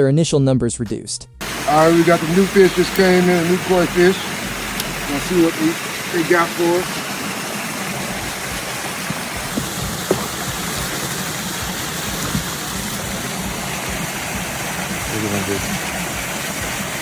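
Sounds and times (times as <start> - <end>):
running water rushing: 1.4 - 17.0.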